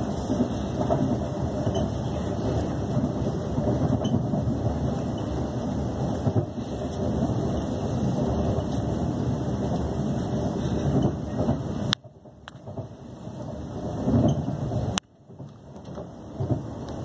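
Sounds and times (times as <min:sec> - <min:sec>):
train carriage running rumble: 0:00.0 - 0:17.0.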